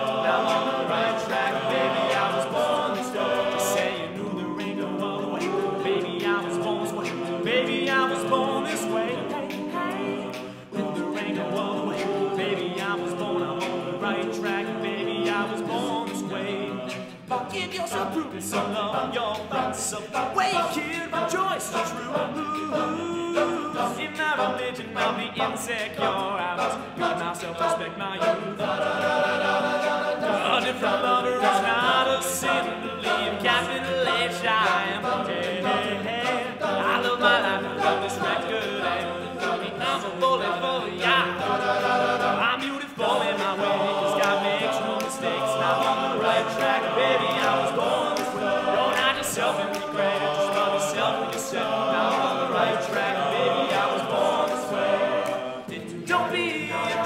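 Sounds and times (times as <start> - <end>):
men singing a cappella in harmony: 0.0 - 57.0.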